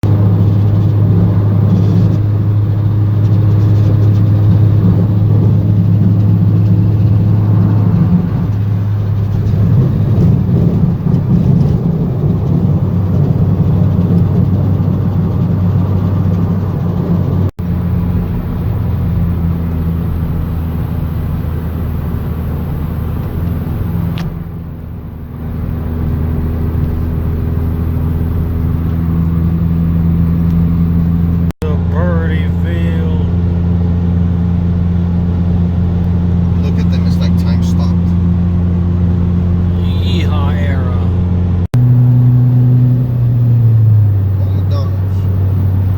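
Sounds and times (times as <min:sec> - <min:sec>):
car engine and road drone: 0:00.0 - 0:45.9.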